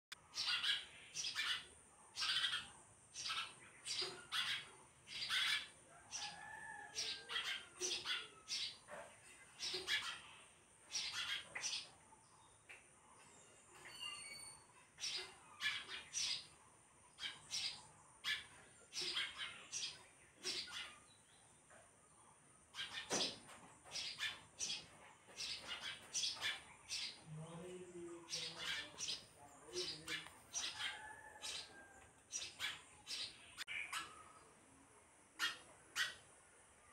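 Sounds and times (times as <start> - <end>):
sparrow chirping: 0.1 - 12.6, 13.7 - 34.5.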